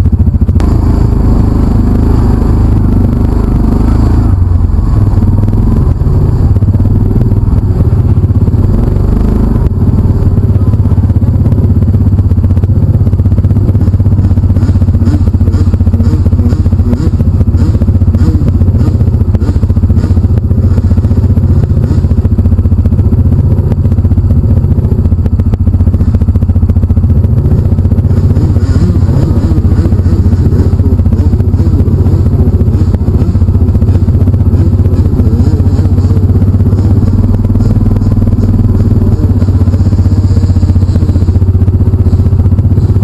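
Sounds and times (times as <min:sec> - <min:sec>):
engine idling low drone: 0:00.0 - 0:43.0.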